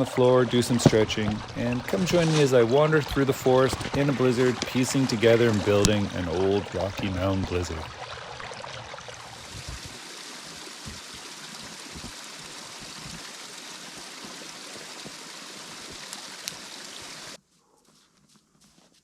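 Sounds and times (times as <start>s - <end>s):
running water rushing: 0.0s - 17.4s.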